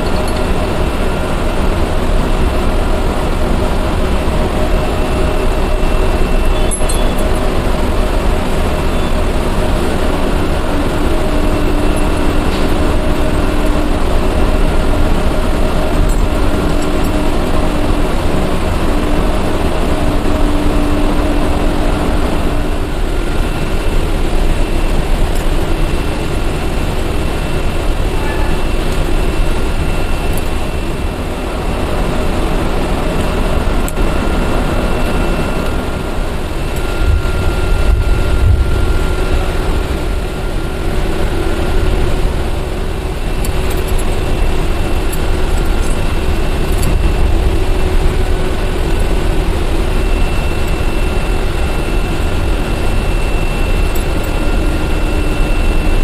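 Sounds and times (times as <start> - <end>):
faint high whines: 0.0 - 56.0
low rumble of machinery: 0.0 - 56.0.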